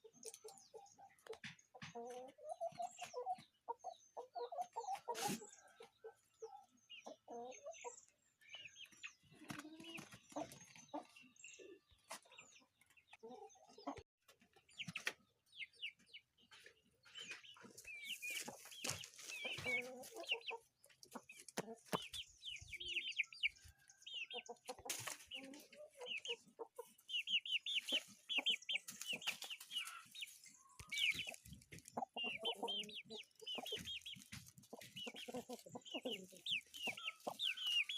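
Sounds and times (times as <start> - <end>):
chickens clucking: 0.0 - 37.9.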